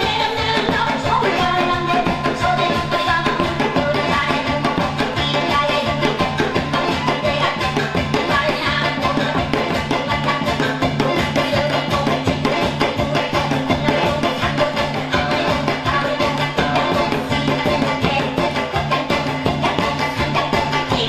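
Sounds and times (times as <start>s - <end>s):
upbeat music with steady beat: 0.0s - 21.0s.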